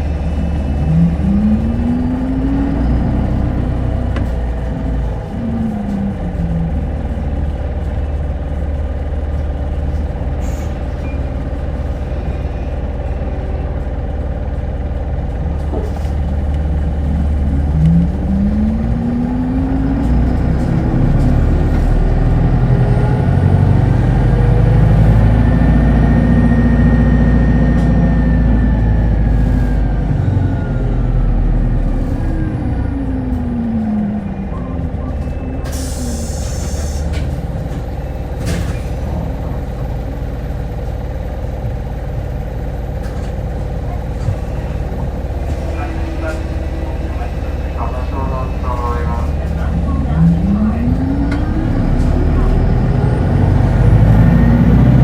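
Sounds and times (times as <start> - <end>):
bus drivetrain whine: 0.0 - 55.0
bus engine rumbling: 0.0 - 55.0.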